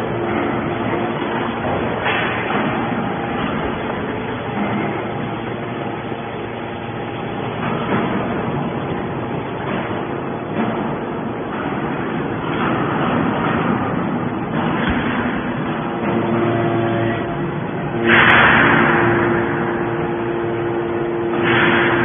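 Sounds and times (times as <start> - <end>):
hydraulic machine hum: 0.0 - 22.0.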